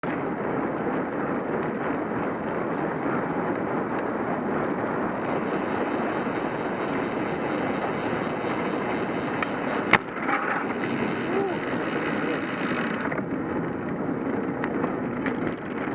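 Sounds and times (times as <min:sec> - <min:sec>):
bicycle tyre road noise: 0:00.0 - 0:15.9
wind on microphone: 0:00.0 - 0:15.9.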